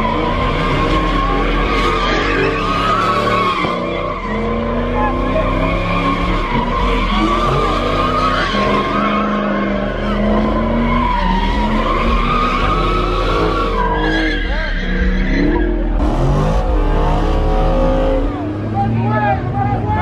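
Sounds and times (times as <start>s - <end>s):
car engine at high revs: 0.0s - 20.0s
car tires squealing: 0.0s - 20.0s.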